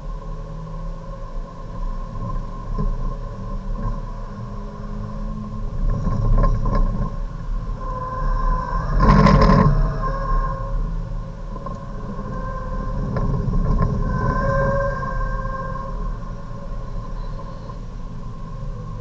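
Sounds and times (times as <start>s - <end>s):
rattling noise: 2.2s - 19.0s.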